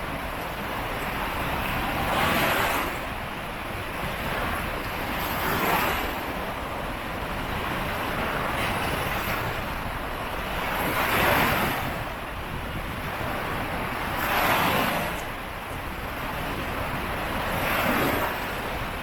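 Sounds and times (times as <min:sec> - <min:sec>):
sea waves breaking: 0:00.0 - 0:19.0
wind buffeting microphone: 0:00.0 - 0:19.0.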